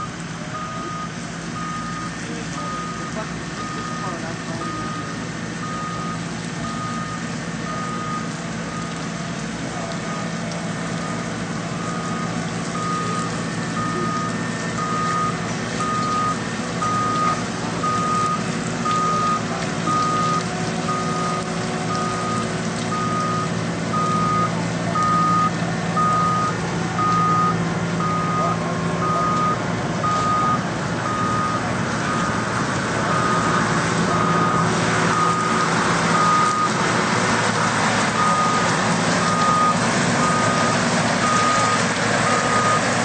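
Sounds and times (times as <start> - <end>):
backup alarm beeping: 0.0 - 9.0, 10.9 - 36.8, 38.1 - 42.9
heavy machine engine running: 0.0 - 43.0.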